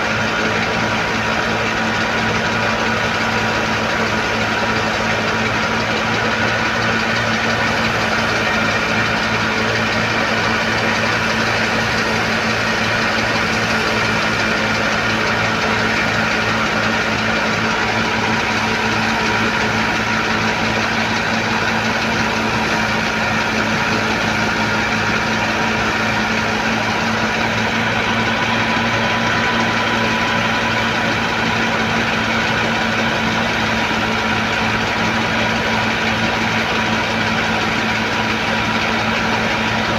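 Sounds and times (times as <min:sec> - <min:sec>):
thresher machine drone: 0:00.0 - 0:39.9.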